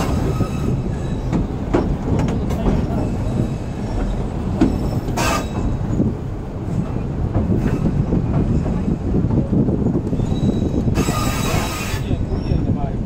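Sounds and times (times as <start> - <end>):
train rumbling over trestle: 0.0 - 13.0.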